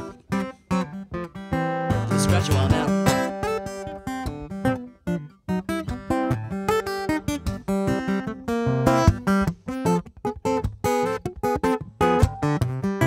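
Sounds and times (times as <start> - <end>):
fingerpicked acoustic guitar: 0.0 - 13.0.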